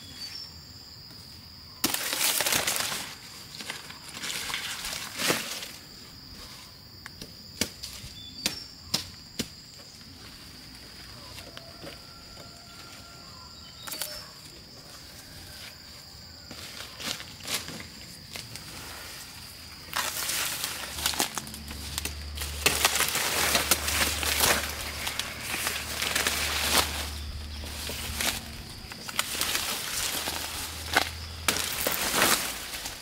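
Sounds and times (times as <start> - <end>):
dry cane leaves rustling: 1.8 - 6.8, 9.8 - 33.0.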